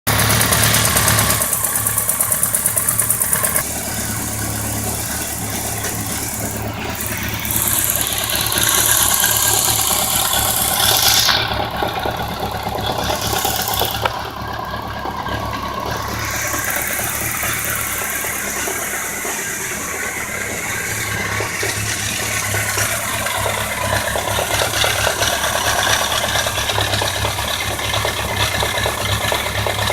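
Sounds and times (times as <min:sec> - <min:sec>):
engine knock and ticking: 0:00.0 - 0:29.9
motorcycle engine idling: 0:00.1 - 0:29.9.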